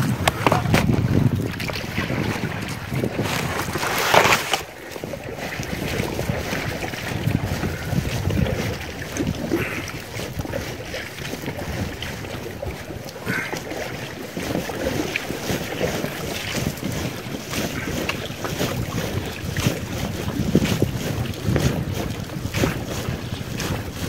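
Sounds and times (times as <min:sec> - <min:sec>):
water splashing against rubber boat: 0:00.0 - 0:24.0
wind buffeting microphone: 0:00.0 - 0:24.0.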